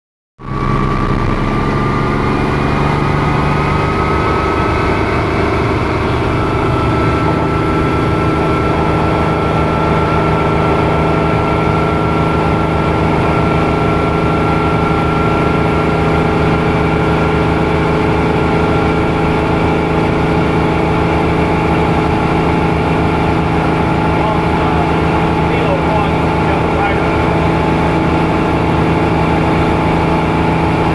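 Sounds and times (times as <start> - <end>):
helicopter engine and rotor: 0.4 - 30.9.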